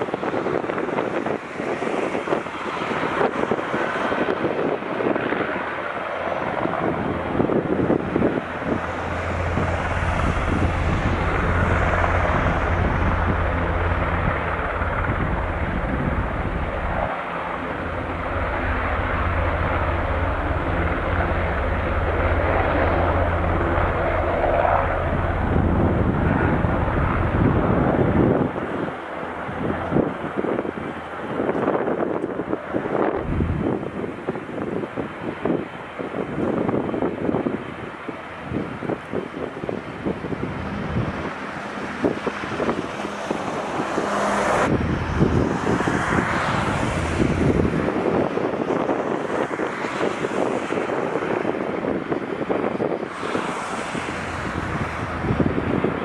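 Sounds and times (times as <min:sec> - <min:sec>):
helicopter turbine and rotor: 0:00.0 - 0:56.0.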